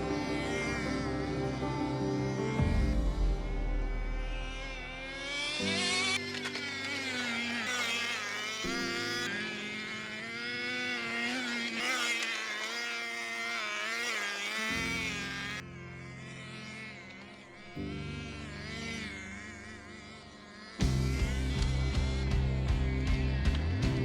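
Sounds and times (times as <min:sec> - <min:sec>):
small nitro engine buzzing: 0:00.0 - 0:24.0.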